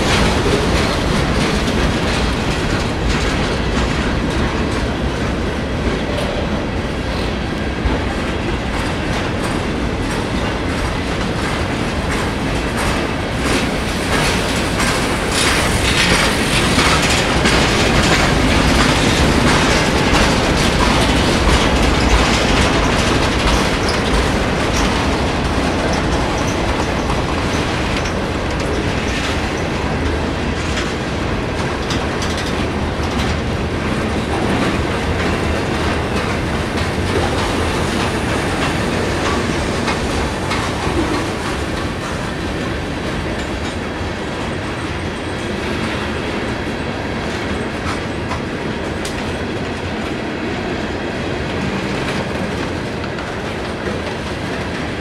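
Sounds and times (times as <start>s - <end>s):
freight train rumble: 0.0s - 55.0s
train wheels clacking over rail joints: 0.0s - 55.0s.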